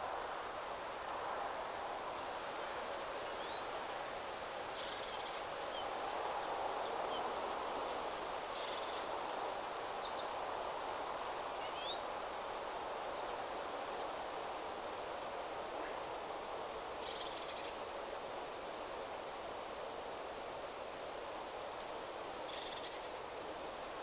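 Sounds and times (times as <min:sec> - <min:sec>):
wind rustling through trees: 0:00.0 - 0:24.0.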